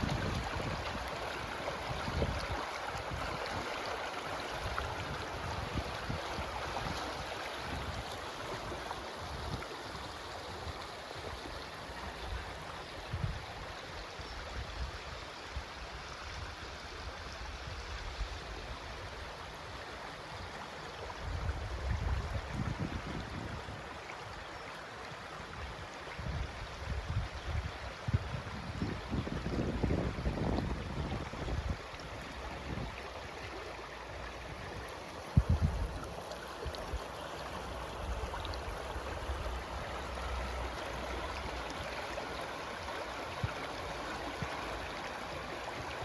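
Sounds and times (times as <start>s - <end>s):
flowing water rushing: 0.0s - 46.0s.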